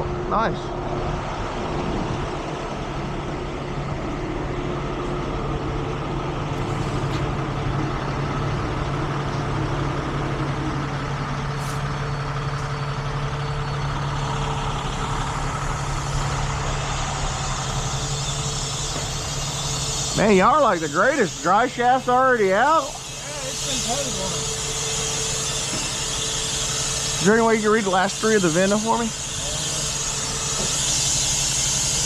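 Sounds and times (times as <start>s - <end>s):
heavy truck engine running: 0.0s - 32.0s.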